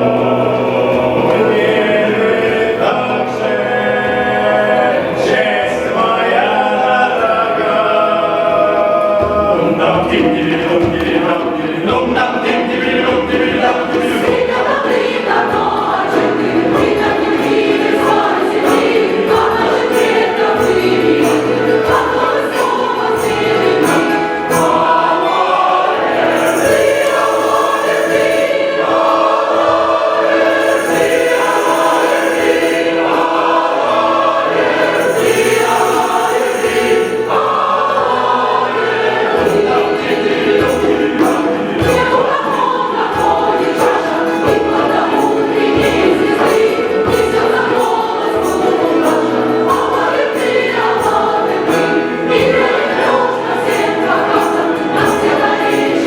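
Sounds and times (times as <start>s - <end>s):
choir singing in harmony: 0.0s - 56.0s
instrumental accompaniment: 0.0s - 56.0s
percussion strokes: 0.0s - 56.0s.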